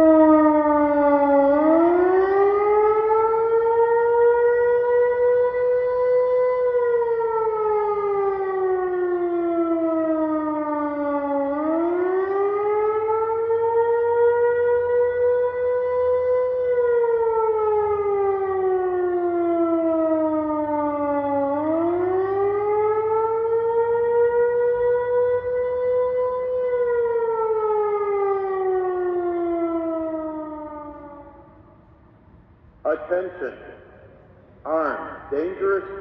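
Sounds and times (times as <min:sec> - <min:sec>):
electronic siren wailing: 0:00.0 - 0:31.7.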